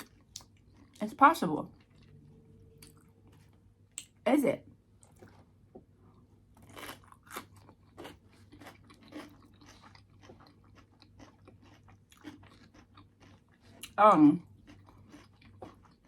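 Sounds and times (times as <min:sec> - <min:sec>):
crunching and chewing food: 0:00.0 - 0:04.1, 0:05.0 - 0:16.0.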